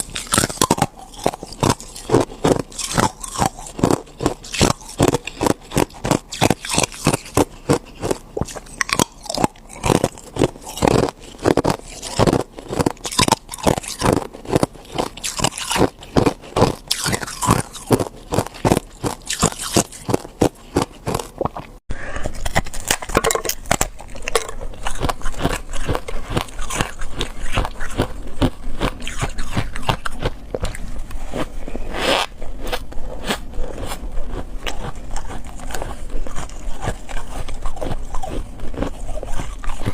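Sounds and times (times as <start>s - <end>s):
person crunching ice: 0.0s - 39.9s
steady low hum: 0.0s - 39.9s.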